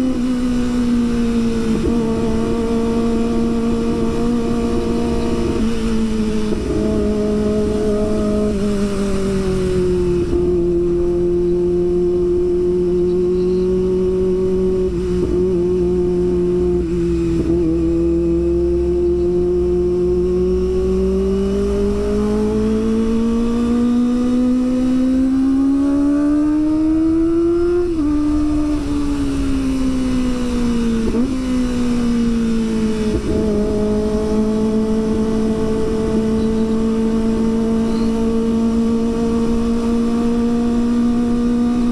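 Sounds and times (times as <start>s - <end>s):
motorcycle engine at high revs: 0.0s - 41.9s
wind rumble on microphone: 0.0s - 41.9s.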